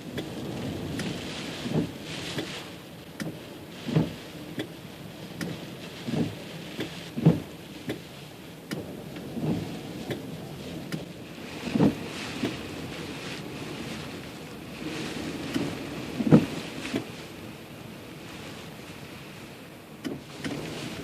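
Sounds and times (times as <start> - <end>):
steady rush of rain: 0.0 - 21.0
raindrop ticks: 0.1 - 17.2, 20.0 - 21.0.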